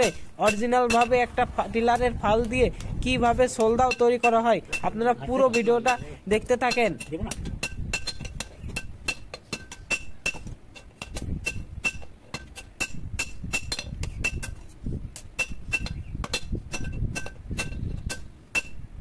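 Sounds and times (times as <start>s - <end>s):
hammer striking steel on anvil: 0.0s - 2.2s, 3.6s - 14.6s, 15.2s - 18.8s.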